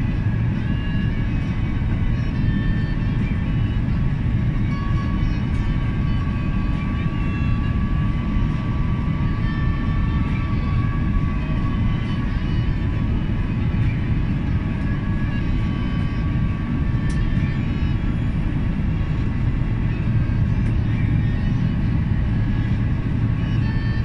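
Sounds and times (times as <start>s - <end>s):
faint steady whine: 0.0s - 24.0s
jet engines and rushing air roar: 0.0s - 24.0s.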